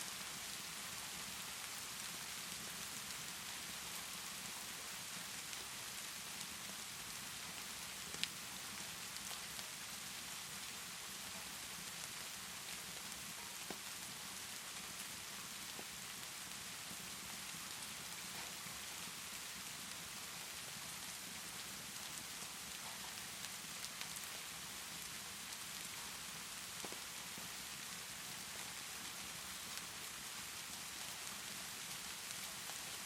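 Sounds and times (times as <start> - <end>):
steady rainfall: 0.0 - 33.0
fireplace crackling: 0.3 - 33.0.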